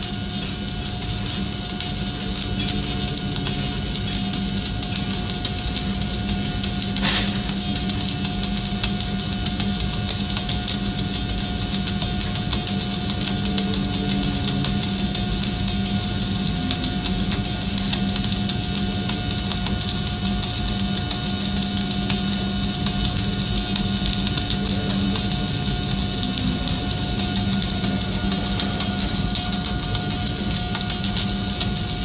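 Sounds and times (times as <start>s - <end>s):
constant hum: 0.0s - 32.0s
welding arc crackling hiss: 0.0s - 32.0s.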